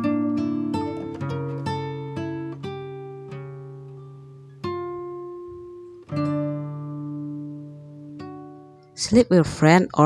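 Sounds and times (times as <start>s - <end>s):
acoustic guitar chord: 0.0s - 9.8s
acoustic guitar plucked notes: 0.0s - 10.0s.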